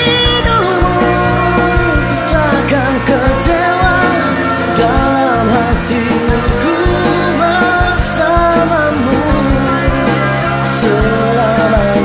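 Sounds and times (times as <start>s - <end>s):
pop-rock song by full band: 0.0s - 12.0s.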